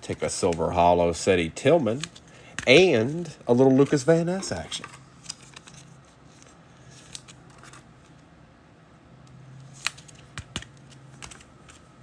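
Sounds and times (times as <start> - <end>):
trading cards clicking and rustling: 0.0 - 8.2, 9.6 - 12.0.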